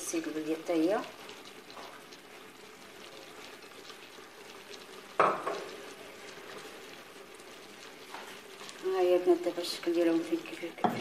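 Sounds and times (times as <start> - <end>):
food sizzling and simmering: 0.0 - 11.0.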